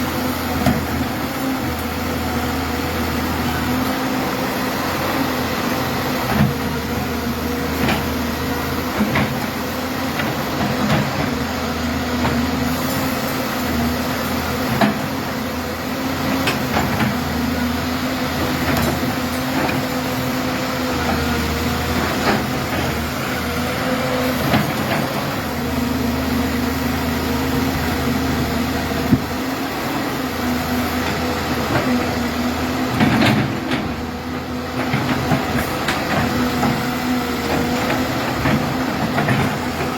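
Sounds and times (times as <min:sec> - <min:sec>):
excavator diesel engine rumble: 0:00.0 - 0:39.9.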